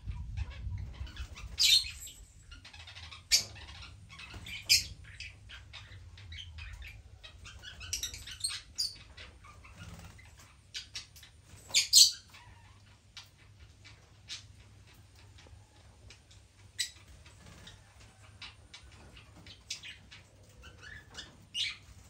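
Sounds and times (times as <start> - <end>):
lovebirds chirping: 0.1 - 22.0.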